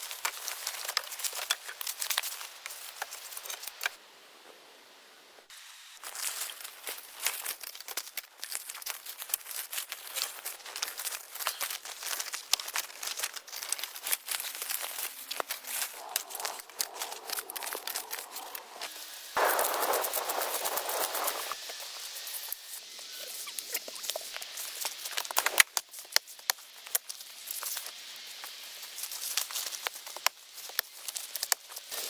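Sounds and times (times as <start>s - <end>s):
crackling and rustling: 0.0s - 4.7s, 5.4s - 32.0s.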